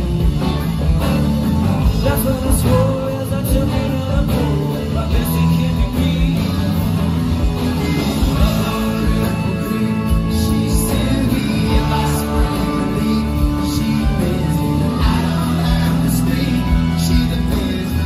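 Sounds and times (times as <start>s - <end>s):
rock music with singing: 0.0s - 18.0s.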